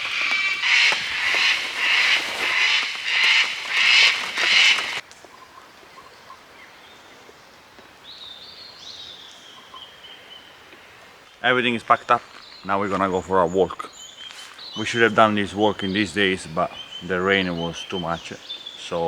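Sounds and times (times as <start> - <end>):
birds calling harshly: 0.0 - 19.0.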